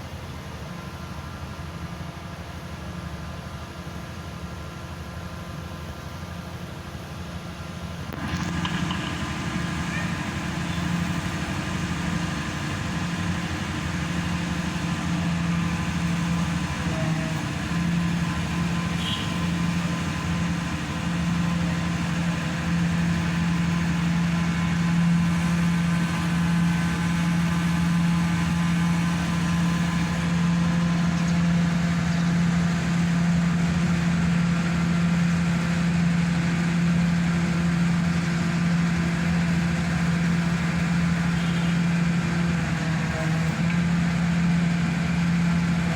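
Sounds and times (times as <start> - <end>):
pile driver engine humming: 5.7 - 45.9.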